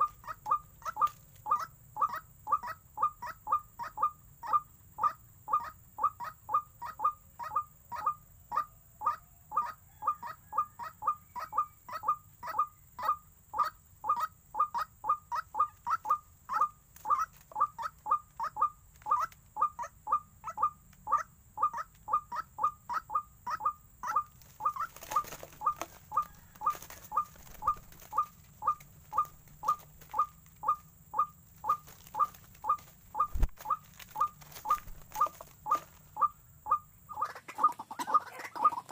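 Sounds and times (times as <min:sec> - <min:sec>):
waterhen call repeating: 0:00.0 - 0:38.9.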